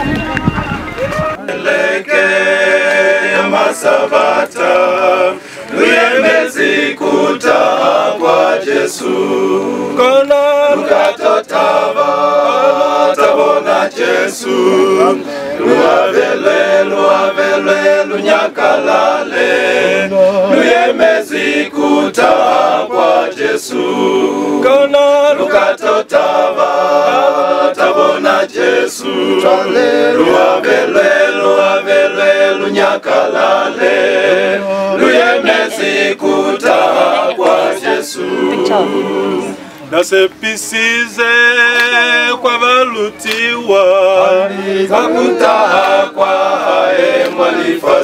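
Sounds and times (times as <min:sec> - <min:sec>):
male choir singing a cappella: 0:01.4 - 0:48.0.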